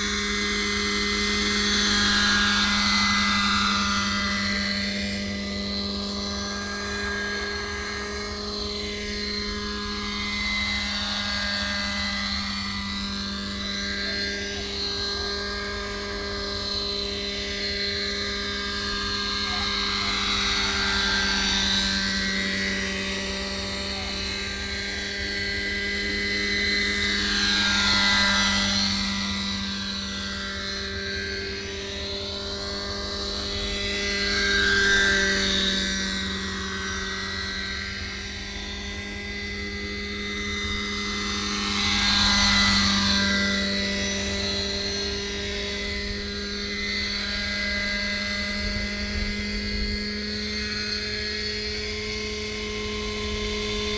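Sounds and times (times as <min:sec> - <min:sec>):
helicopter hovering: 0:00.0 - 0:53.9.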